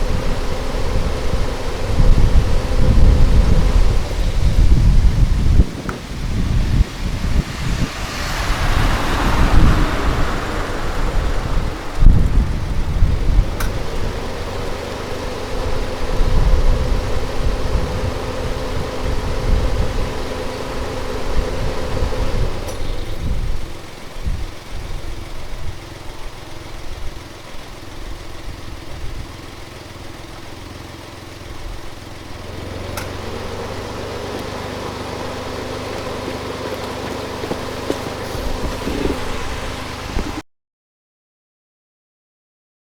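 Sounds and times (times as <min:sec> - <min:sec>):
car engine running: 0:00.0 - 0:40.4.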